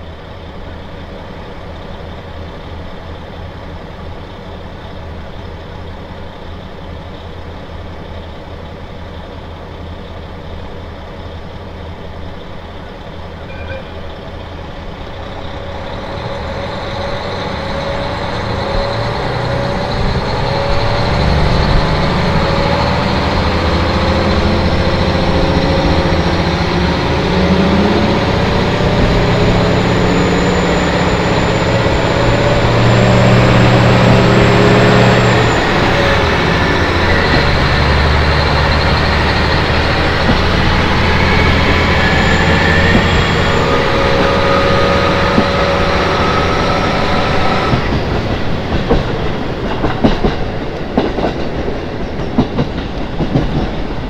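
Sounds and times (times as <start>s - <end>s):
high whine: 0.0s - 51.4s
diesel railcar engine: 0.0s - 54.0s
wheels rushing on rail: 0.0s - 54.0s.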